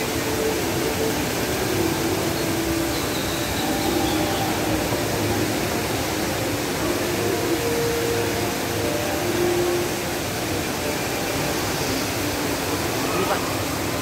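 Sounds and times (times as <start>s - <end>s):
indoor waterfall rushing: 0.0s - 14.0s.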